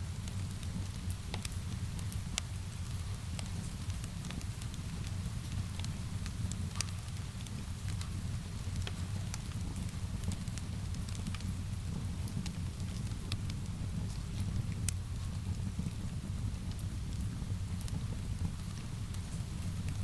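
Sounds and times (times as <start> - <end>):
wood fire crackling: 0.1 - 20.0.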